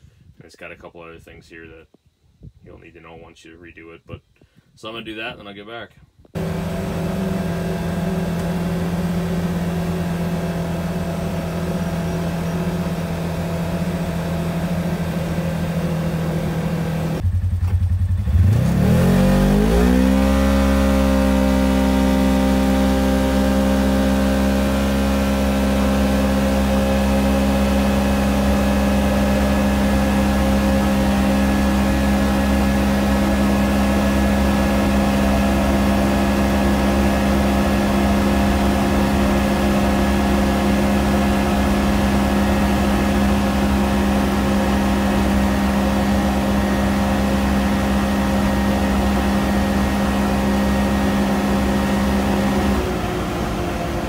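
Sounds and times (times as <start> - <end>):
engine running and idling: 6.3 - 54.0.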